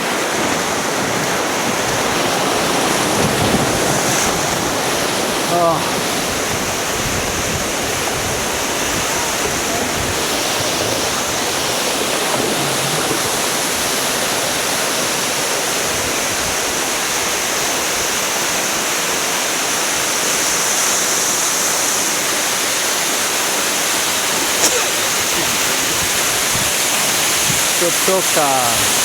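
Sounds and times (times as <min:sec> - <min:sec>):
rushing whitewater: 0:00.0 - 0:29.0.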